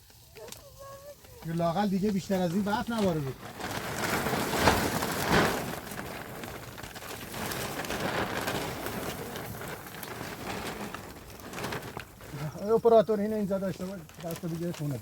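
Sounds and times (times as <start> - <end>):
plastic sheet rustling: 0.0 - 15.0.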